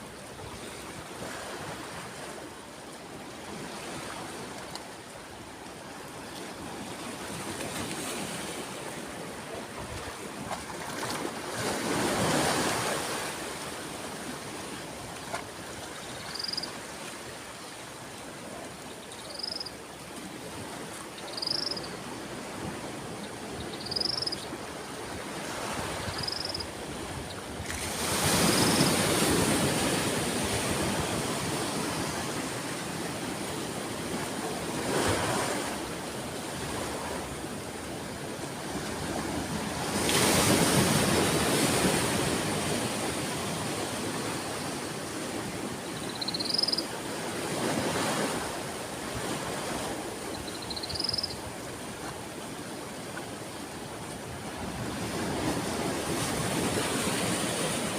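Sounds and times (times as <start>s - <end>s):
sea waves breaking: 0.0s - 57.9s.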